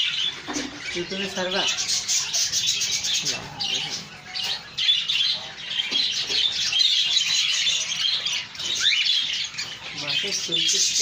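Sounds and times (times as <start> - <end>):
birds chirping and chattering: 0.0 - 11.0.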